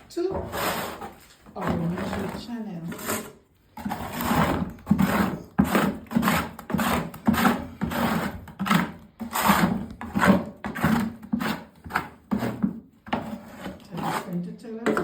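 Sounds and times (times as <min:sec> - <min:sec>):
hand tool rasping strokes: 0:00.4 - 0:14.5.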